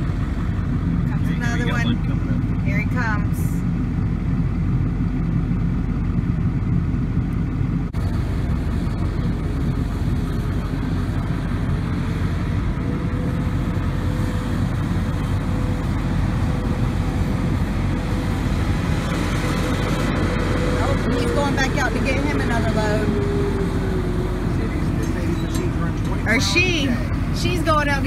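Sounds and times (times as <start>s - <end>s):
engine rumble inside vehicle: 0.0s - 28.0s.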